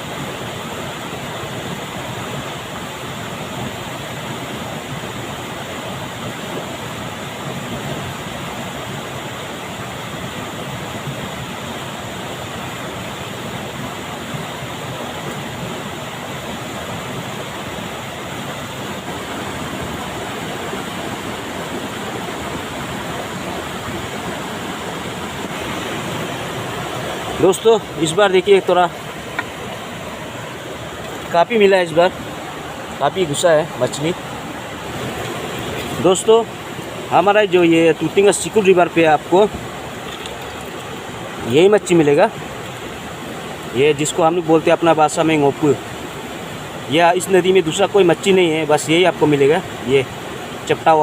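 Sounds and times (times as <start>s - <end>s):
river rushing: 0.0s - 51.0s.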